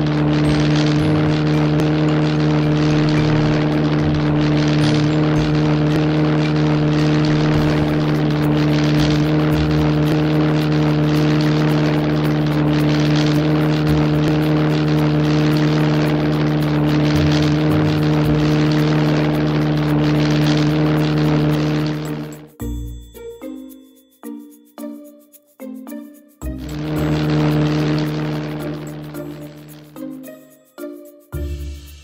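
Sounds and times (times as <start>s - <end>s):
propeller airplane engine drone: 0.0s - 32.0s.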